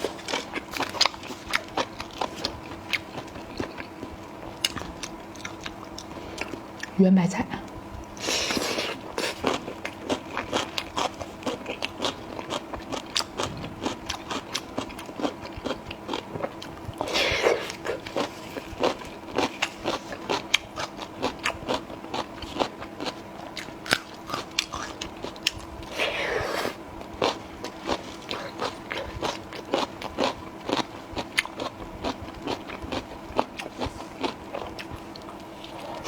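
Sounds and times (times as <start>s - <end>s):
crunchy chewing of cabbage: 0.0s - 7.0s, 7.8s - 36.0s.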